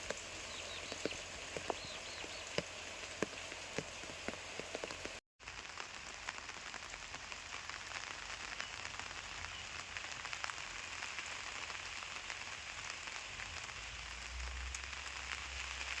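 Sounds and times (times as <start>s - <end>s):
steady rain with dripping: 0.0s - 16.0s.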